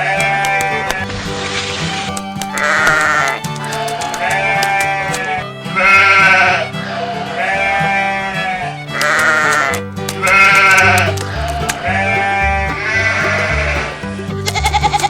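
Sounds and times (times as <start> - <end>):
animal bleating: 0.0 - 15.0
background music: 0.0 - 15.0.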